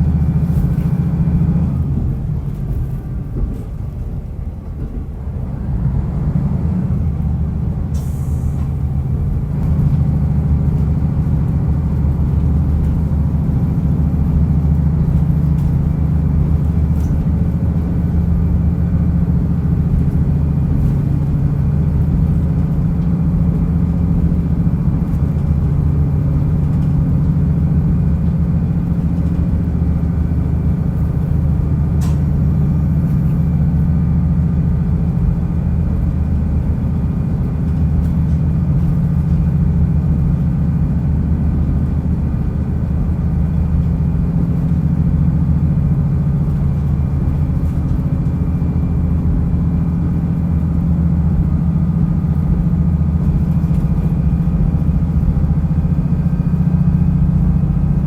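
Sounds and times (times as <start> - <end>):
diesel railcar engine drone: 0.0 - 58.0
train wheels rumbling: 0.0 - 58.0.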